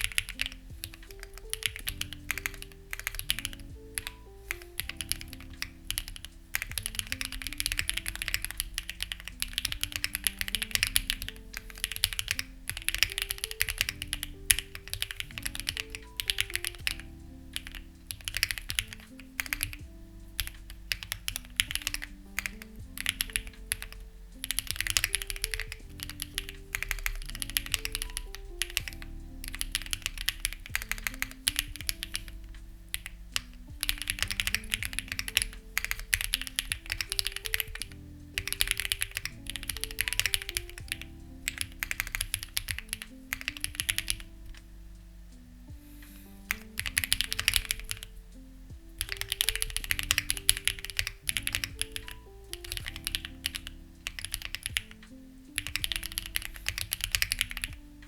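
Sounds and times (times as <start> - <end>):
mechanical keyboard typing: 0.0 - 44.7, 46.5 - 48.2, 48.8 - 57.8
background music: 0.0 - 58.0.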